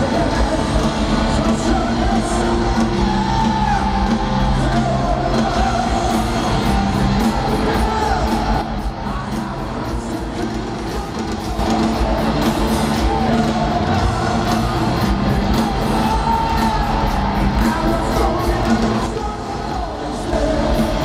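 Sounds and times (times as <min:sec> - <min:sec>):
crowd singing and yelling: 0:00.0 - 0:21.0
rock band playing live: 0:00.0 - 0:21.0.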